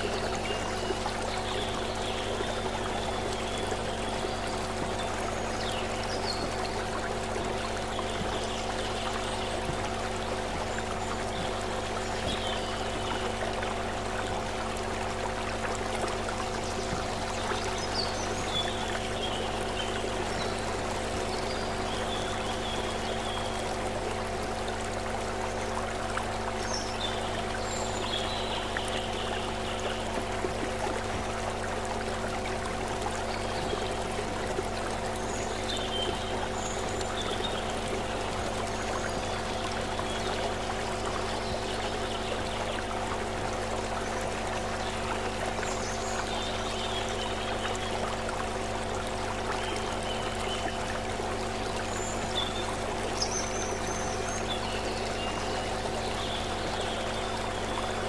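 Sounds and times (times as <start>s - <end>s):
low hum of held tones: 0.0s - 58.0s
stream running over rocks: 0.0s - 58.0s.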